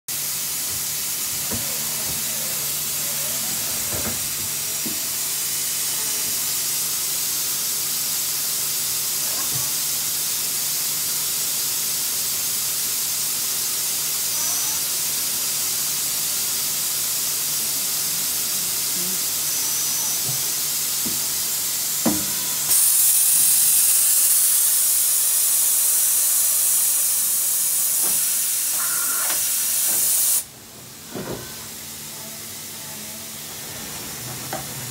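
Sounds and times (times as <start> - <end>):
lathe running with steady hiss: 0.1 - 34.9.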